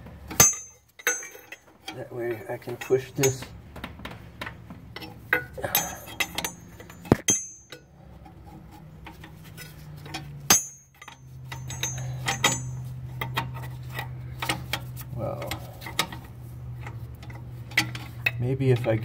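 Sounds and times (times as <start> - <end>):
low steady hum: 0.0 - 19.0
metal tube clinking and knocking: 0.3 - 18.9.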